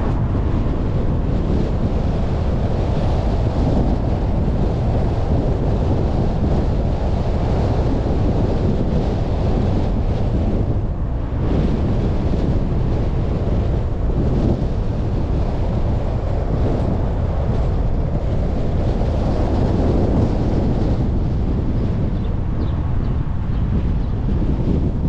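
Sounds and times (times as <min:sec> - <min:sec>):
car driving on road: 0:00.0 - 0:25.0
wind buffeting microphone: 0:00.0 - 0:25.0.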